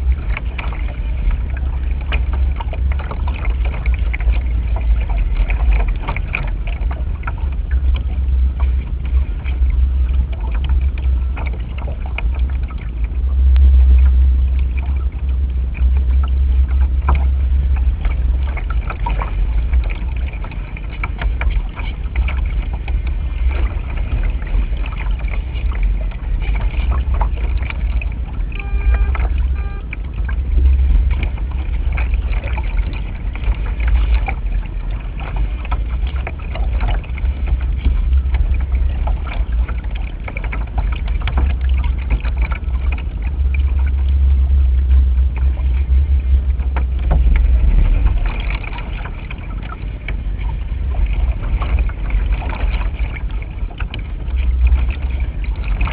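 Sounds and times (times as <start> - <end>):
water splashing against hull: 0.0 - 55.9
wind buffeting microphone: 0.0 - 55.9.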